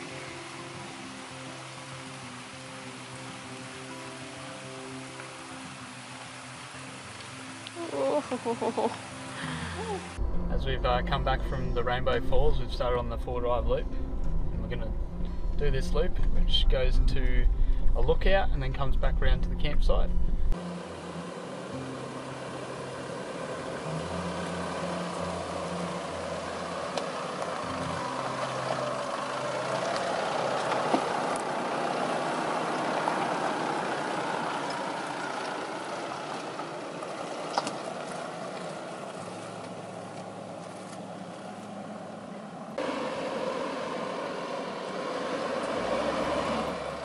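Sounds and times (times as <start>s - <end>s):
diesel engine running at low revs: 9.0s - 47.0s.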